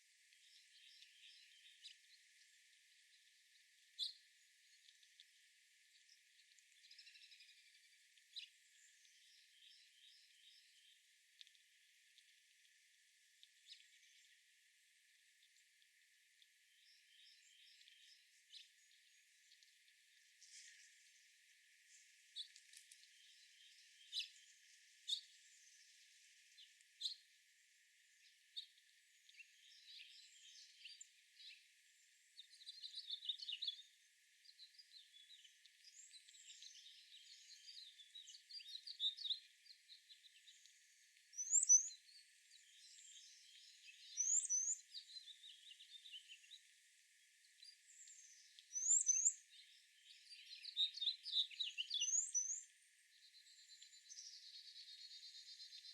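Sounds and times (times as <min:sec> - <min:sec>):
songbirds chirping and singing: 0:00.3 - 0:12.6, 0:13.4 - 0:27.4, 0:28.0 - 0:55.9.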